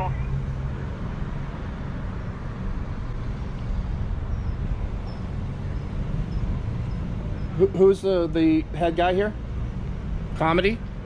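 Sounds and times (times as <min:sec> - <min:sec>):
road noise hiss: 0:00.0 - 0:11.0
road traffic rumble: 0:00.0 - 0:11.0.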